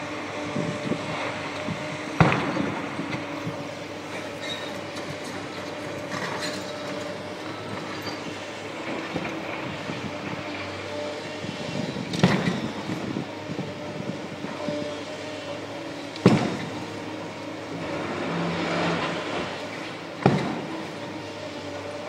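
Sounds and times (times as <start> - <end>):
excavator engines and hydraulics: 0.0 - 22.0.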